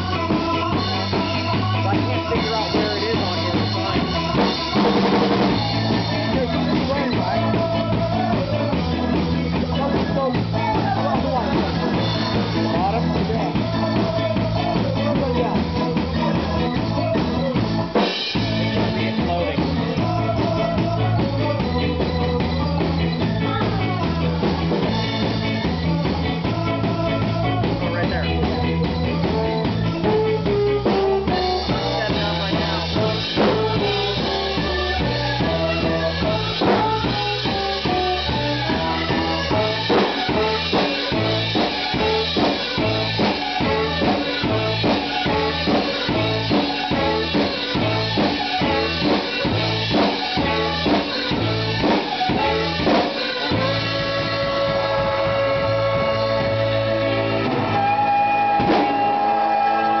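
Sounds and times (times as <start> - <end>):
bass guitar: 0.0 - 60.0
drum kit beat: 0.0 - 60.0
electric guitar: 0.0 - 60.0
organ chords: 0.0 - 60.0.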